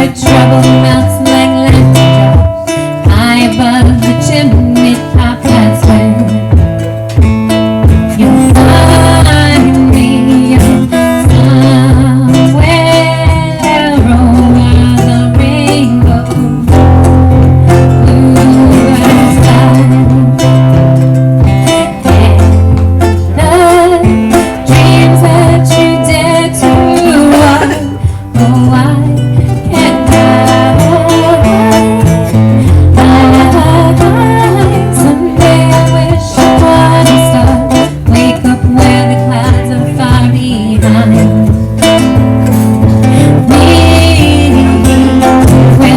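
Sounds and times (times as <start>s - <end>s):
person singing: 0.0s - 6.6s, 8.1s - 21.0s, 21.6s - 41.8s, 42.8s - 45.9s
acoustic guitar: 0.0s - 45.9s
low steady bass notes: 0.0s - 45.9s.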